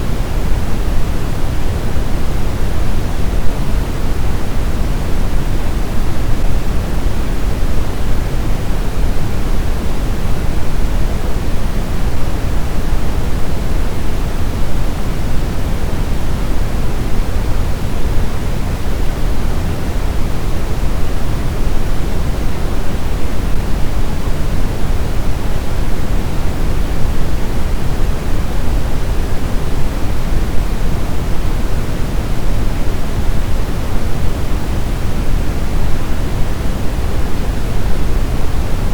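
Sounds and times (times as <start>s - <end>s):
steady low pink noise: 0.0s - 38.9s.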